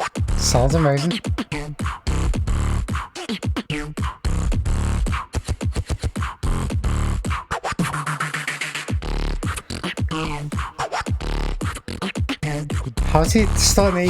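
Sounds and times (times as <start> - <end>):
beatboxing: 0.0 - 14.0.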